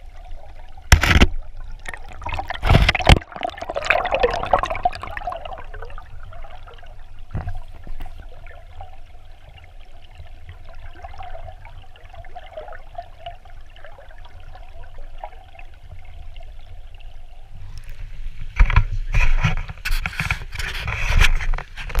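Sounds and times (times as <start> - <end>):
muffled underwater stream rush: 0.0 - 22.0.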